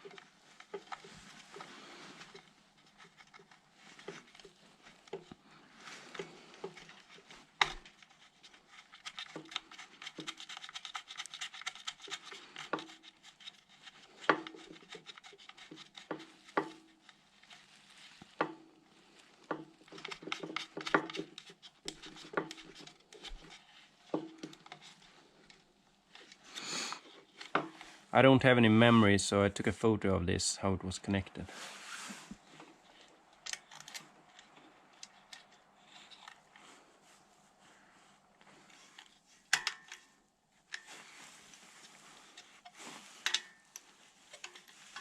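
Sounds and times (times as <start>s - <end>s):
rubbing and scraping: 0.0s - 29.0s, 31.0s - 45.0s.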